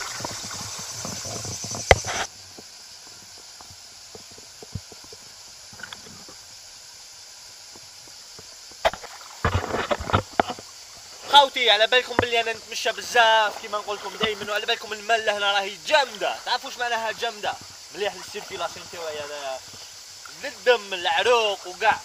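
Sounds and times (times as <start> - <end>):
small splashes and knocks: 0.0 - 6.5, 7.6 - 22.0
rushing water: 0.0 - 22.0
water splashing and gurgling: 0.0 - 22.0.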